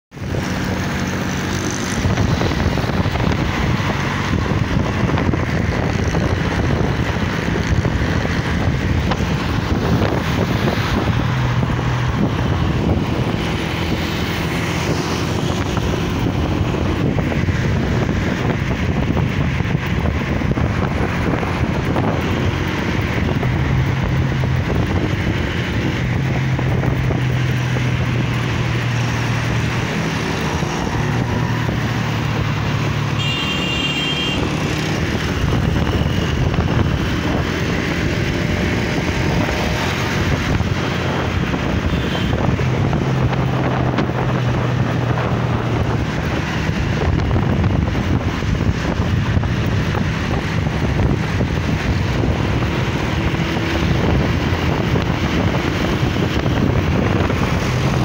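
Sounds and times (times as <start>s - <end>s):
wind buffeting microphone: 0.1s - 33.2s, 34.3s - 58.0s
motorcycle engine running: 0.1s - 58.0s.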